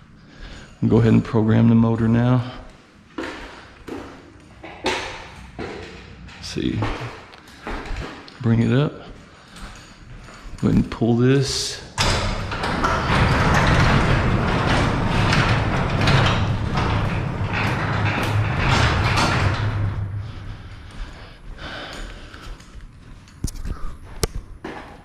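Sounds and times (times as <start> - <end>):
garage door rollers rumbling: 0.0 - 24.2.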